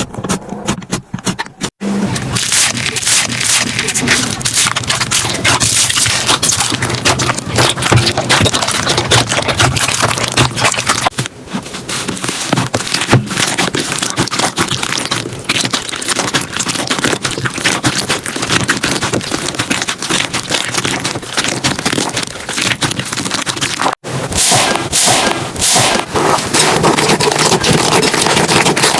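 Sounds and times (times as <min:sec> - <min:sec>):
slime squeezed crackling and popping: 0:02.3 - 0:11.2, 0:12.2 - 0:28.9.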